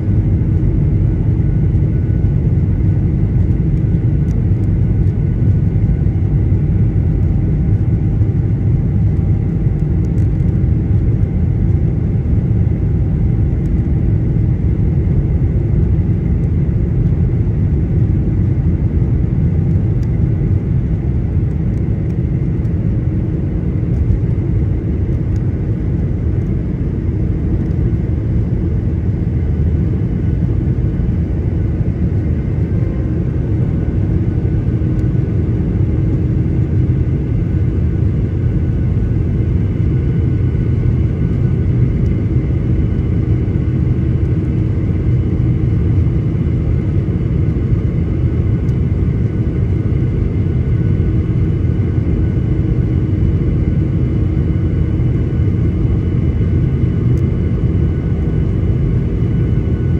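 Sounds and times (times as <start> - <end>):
airliner engines rumbling: 0.0 - 59.9
faint engine whines: 0.0 - 59.9.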